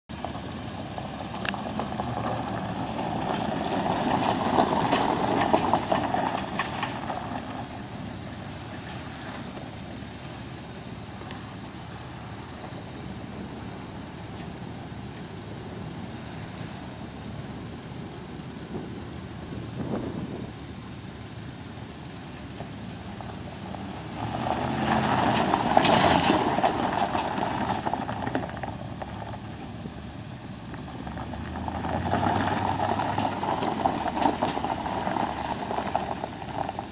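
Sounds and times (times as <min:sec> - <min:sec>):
truck engine idling: 0:00.1 - 0:36.9.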